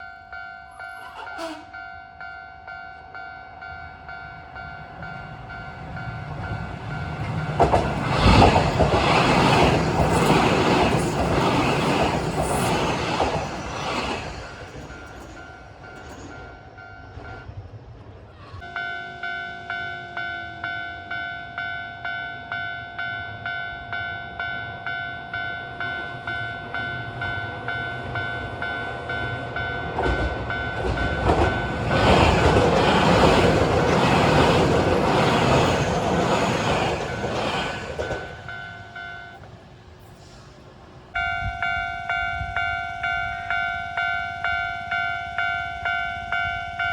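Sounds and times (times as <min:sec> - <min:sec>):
electric train rumbling past: 0:00.0 - 0:46.9.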